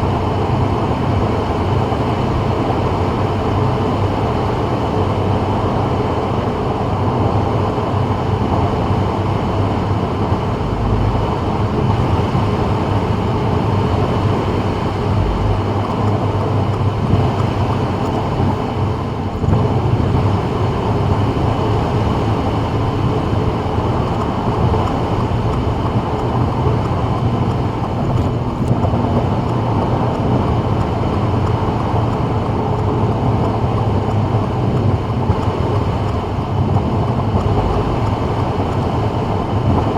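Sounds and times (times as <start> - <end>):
low car drone: 0.0 - 39.9
tyre noise on wet road: 0.0 - 39.9.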